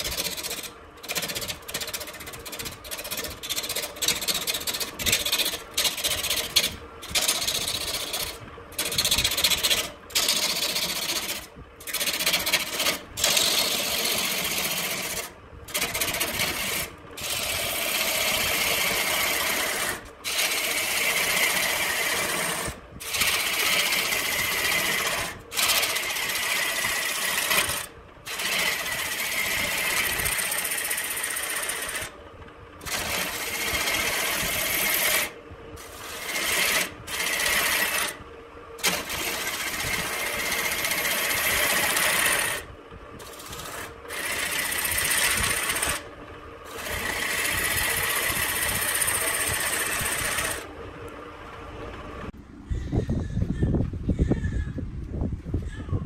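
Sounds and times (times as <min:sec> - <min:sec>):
lathe tool cutting wood: 0:00.0 - 0:32.2, 0:32.8 - 0:38.2, 0:38.8 - 0:50.7.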